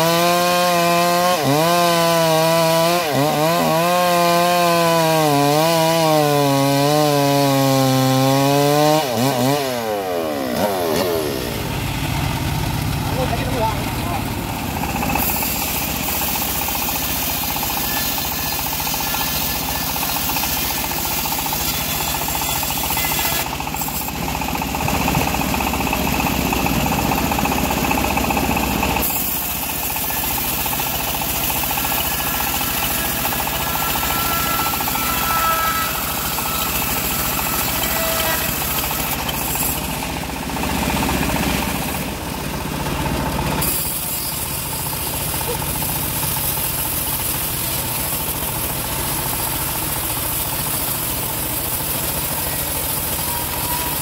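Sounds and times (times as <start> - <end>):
bandsaw mill running: 0.0 - 54.0.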